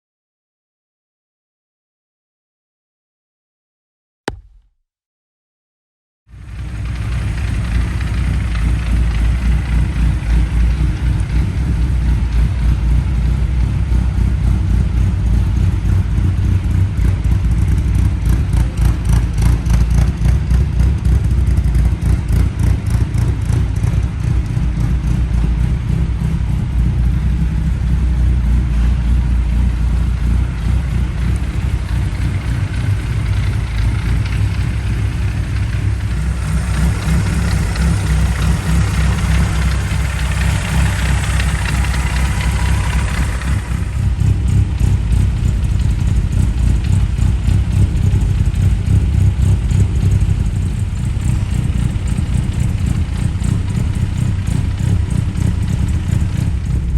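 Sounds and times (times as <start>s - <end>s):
car engine idling: 6.3s - 56.9s.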